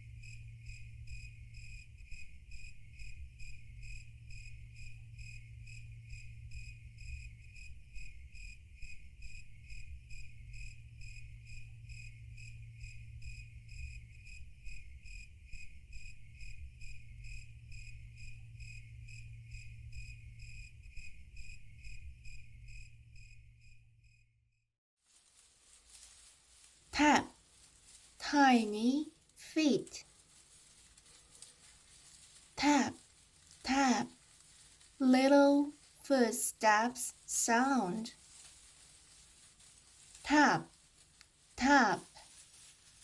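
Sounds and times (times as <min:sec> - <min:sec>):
crickets chirping: 0:00.0 - 0:24.3, 0:25.4 - 0:43.0.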